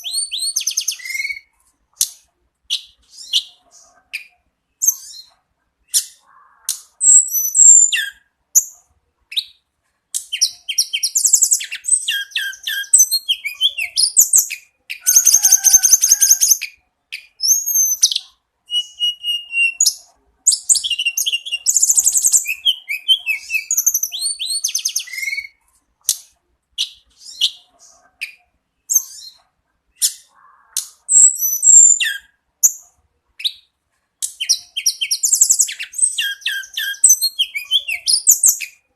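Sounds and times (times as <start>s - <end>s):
bird singing: 0.0s - 1.5s, 2.7s - 9.6s, 10.2s - 25.6s, 26.8s - 29.4s, 30.0s - 32.8s, 33.4s - 38.9s.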